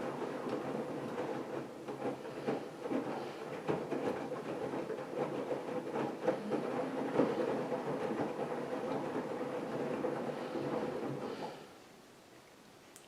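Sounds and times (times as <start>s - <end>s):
washing machine drum knocking: 0.0s - 11.3s
washing machine motor hum: 0.0s - 12.2s.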